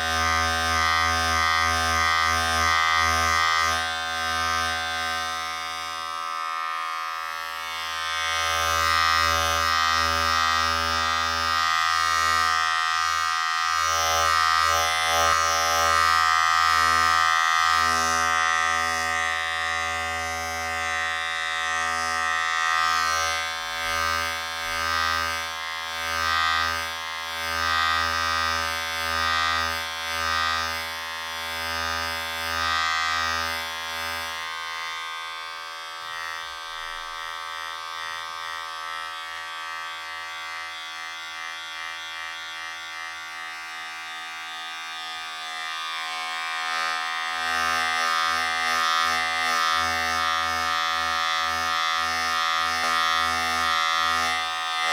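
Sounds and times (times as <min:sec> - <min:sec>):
electric razor buzzing: 0:00.0 - 0:54.9.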